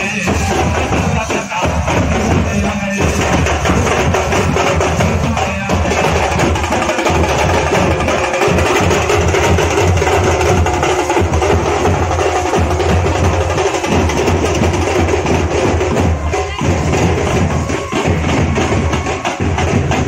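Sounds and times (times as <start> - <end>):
barrel drums beaten with sticks: 0.0 - 20.0.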